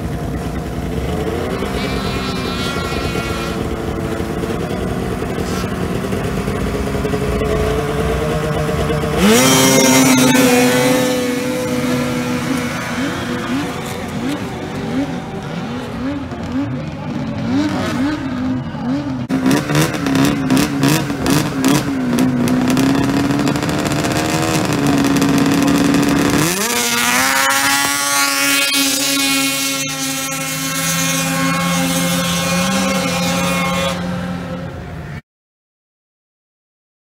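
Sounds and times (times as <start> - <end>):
snowmobile engines revving: 0.0 - 35.2.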